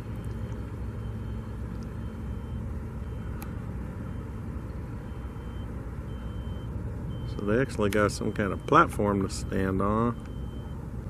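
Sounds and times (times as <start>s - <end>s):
backup alarm beeping: 0.2s - 3.4s, 5.0s - 10.9s.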